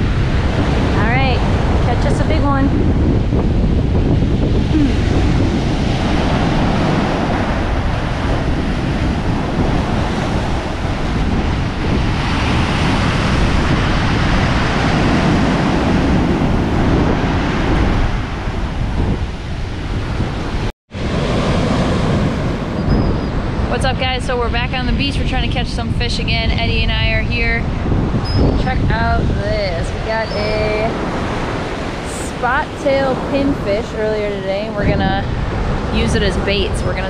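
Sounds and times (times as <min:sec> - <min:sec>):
ocean surf breaking: 0:00.0 - 0:37.0
wind buffeting microphone: 0:00.0 - 0:37.0.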